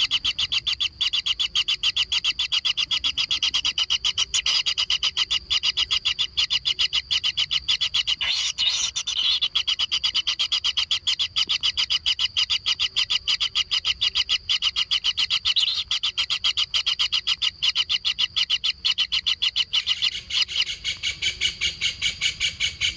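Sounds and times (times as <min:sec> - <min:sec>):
kingfisher nestlings begging churr: 0:00.0 - 0:22.9.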